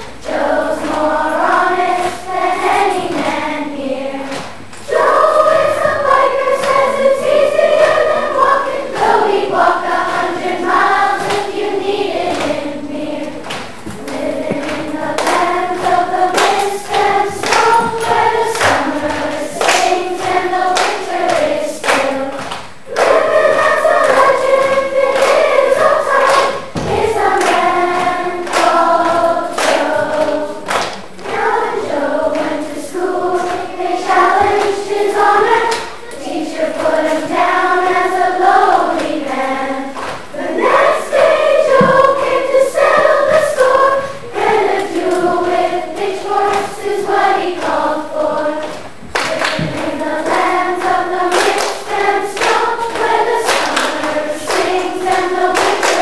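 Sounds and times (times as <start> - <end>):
hand claps: 0.0 - 1.1, 4.2 - 11.6, 12.2 - 12.6, 13.2 - 32.8, 33.4 - 38.0, 38.9 - 56.0
children's choir singing: 0.0 - 56.0.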